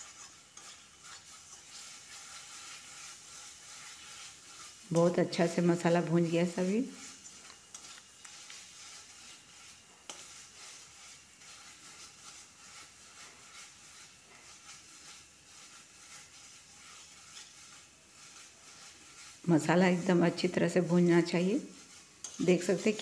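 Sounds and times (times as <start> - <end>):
food sizzling in a pan: 0.0 - 23.0
spatula stirring and scraping: 0.0 - 23.0.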